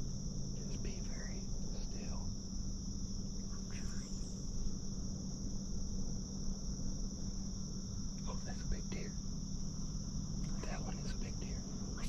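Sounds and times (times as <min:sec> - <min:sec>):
insect chorus trilling: 0:00.0 - 0:12.0
low steady hum: 0:00.0 - 0:12.0.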